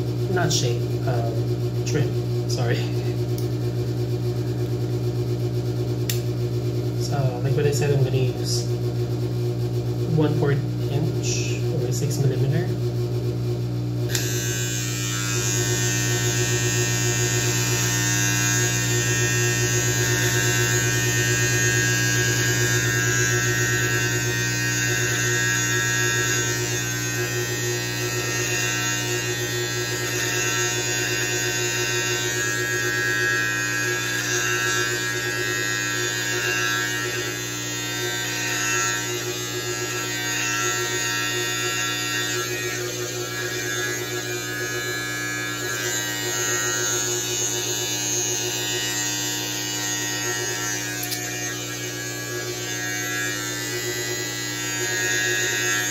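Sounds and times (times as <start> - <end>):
electric beard trimmer buzzing: 0.0 - 6.4, 7.0 - 8.8, 10.0 - 12.7, 14.0 - 55.9.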